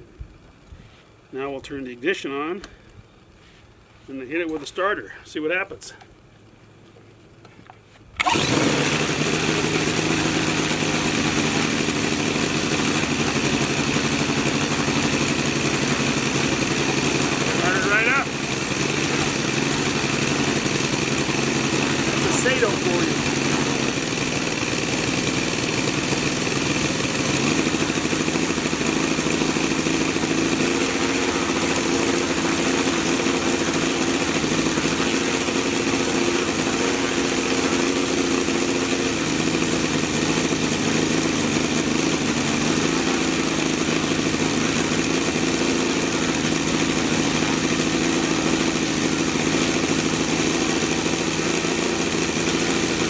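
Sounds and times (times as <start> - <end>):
model aircraft engine running: 8.2 - 53.0.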